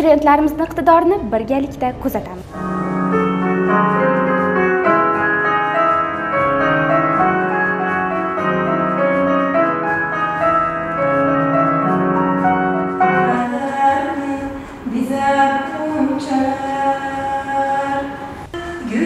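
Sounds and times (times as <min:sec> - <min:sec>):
digital piano piece: 0:00.0 - 0:19.0.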